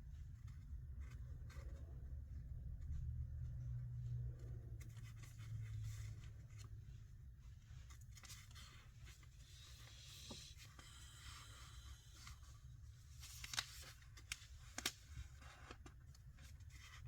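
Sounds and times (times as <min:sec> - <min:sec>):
faint scratching and rubbing: 0:00.0 - 0:17.0.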